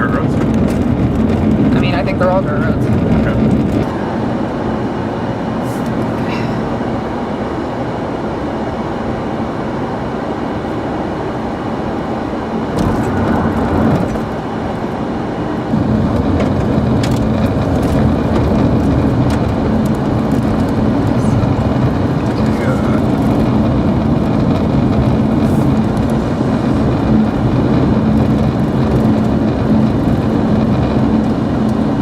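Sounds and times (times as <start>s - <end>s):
road and engine rumble: 0.0s - 32.0s.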